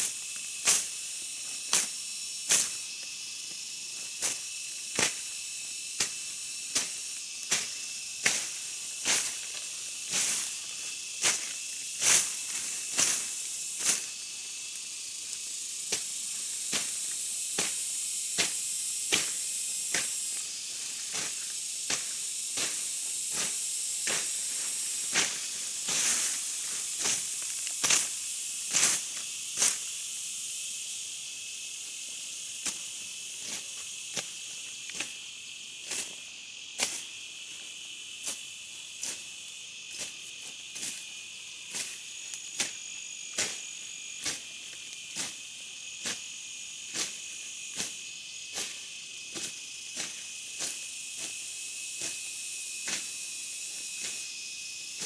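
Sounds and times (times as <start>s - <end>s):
high-pitched hiss: 0.0s - 55.0s.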